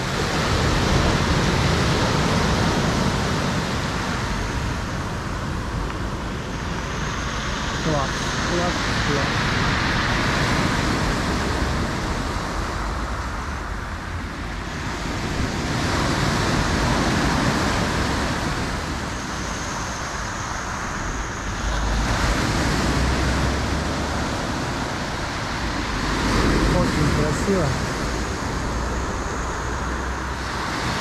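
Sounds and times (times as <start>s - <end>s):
surf washing up pebble beach: 0.0s - 31.0s
low rumble: 4.0s - 31.0s.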